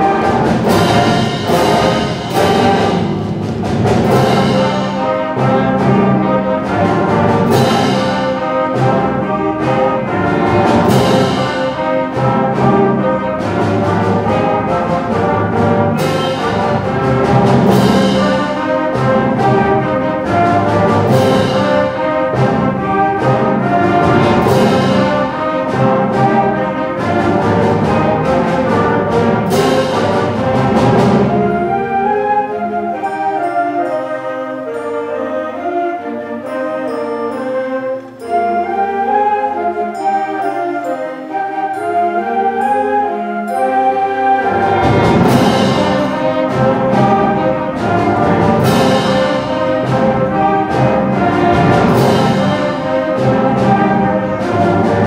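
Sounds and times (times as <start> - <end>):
concert band playing: 0.0 - 55.0.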